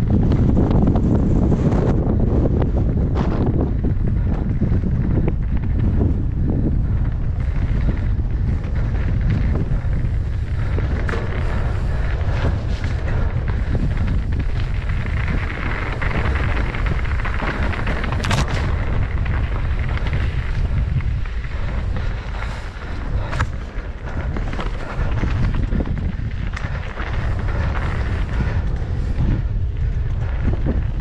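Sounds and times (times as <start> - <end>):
bike rattling over rough trail: 0.0 - 31.0
wind buffeting microphone: 0.0 - 31.0.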